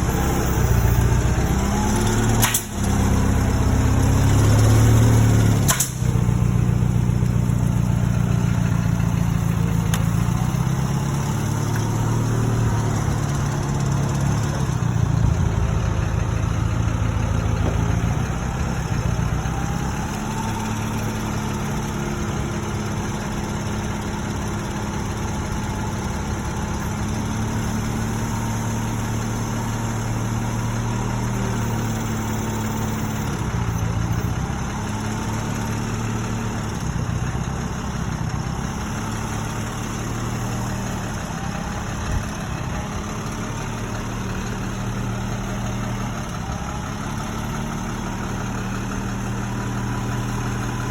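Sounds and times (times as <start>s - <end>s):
engine low drone: 0.0s - 50.9s.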